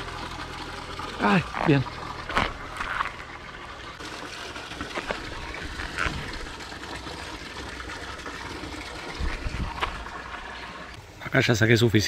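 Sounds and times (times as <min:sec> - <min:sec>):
creek water running: 0:00.0 - 0:11.5.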